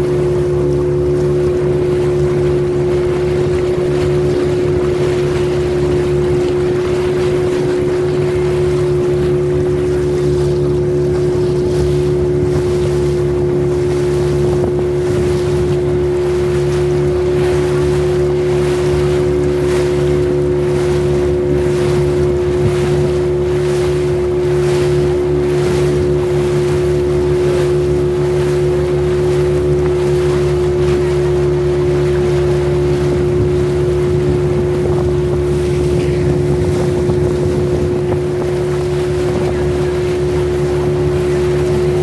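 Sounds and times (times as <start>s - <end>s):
motor boat engine running: 0.0s - 42.0s
water swishing against hull: 0.0s - 42.0s
wind on microphone: 0.0s - 42.0s.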